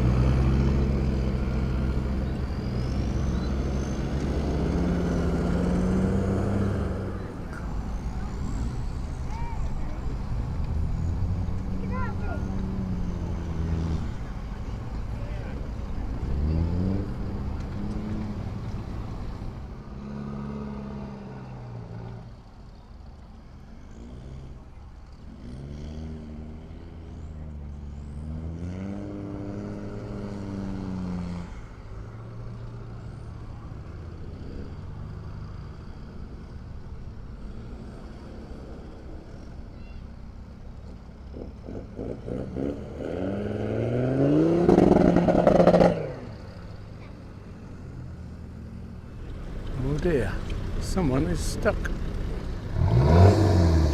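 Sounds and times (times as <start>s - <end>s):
vehicle engine revving: 0.0s - 9.3s, 10.0s - 22.3s, 23.8s - 36.6s, 40.8s - 53.9s.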